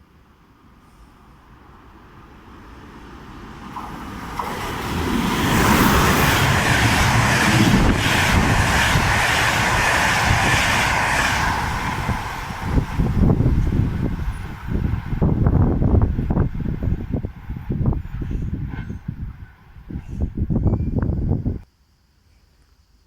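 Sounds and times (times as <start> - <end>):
train passing rumble: 0.0 - 21.6.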